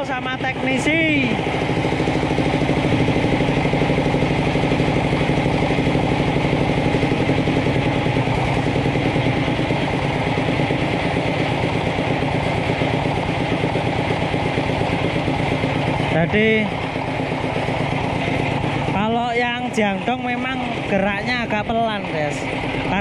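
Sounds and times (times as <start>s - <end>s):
diesel engine running at low speed: 0.0s - 23.0s.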